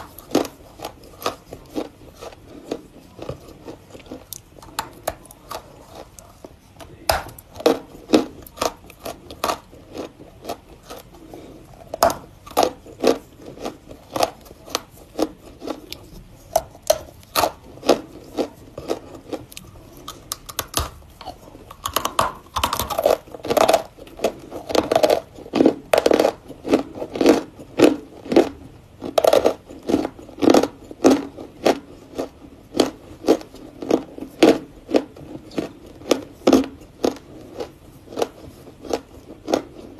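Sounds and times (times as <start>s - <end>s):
chalk crunching while chewed: 0.0s - 39.9s.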